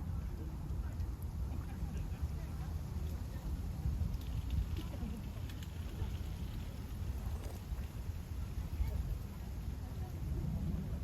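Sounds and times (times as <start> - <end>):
low uneven background rumble: 0.0 - 11.0.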